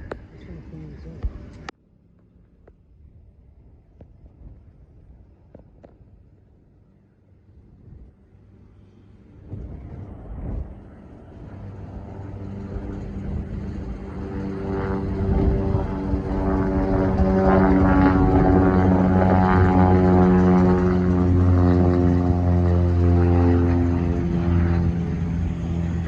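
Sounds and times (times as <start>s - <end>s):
aircraft engine hum: 0.0s - 26.0s.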